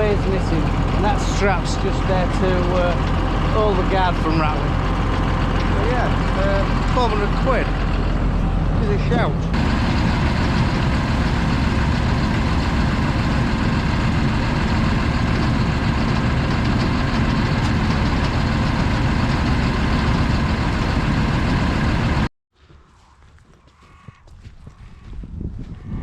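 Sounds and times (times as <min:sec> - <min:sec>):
feed mixer rumble and clatter: 0:00.0 - 0:22.3.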